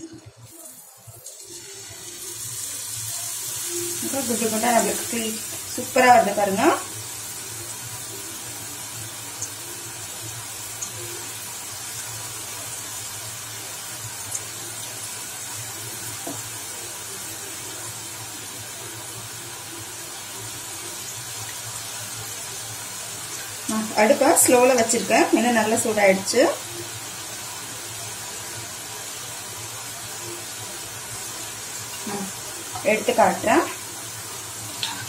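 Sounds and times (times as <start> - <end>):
hot oil sizzling: 0.0 - 35.0.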